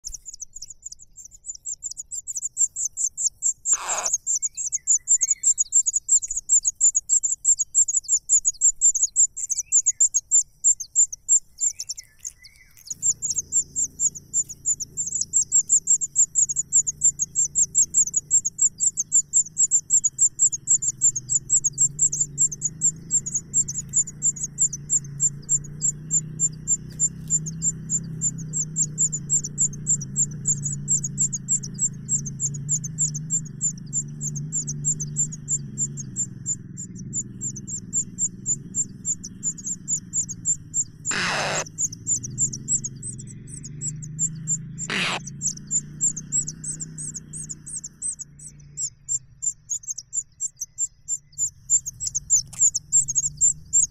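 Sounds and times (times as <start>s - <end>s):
high-pitched chirping: 0.1s - 53.9s
soft low chirps: 0.1s - 53.9s.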